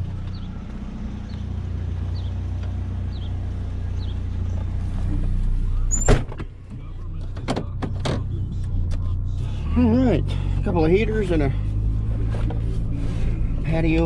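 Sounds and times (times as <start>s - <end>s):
truck engine low hum: 0.0s - 14.0s.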